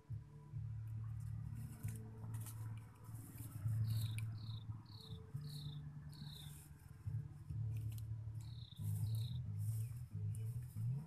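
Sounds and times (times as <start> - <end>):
low droning hum: 0.0 - 11.0.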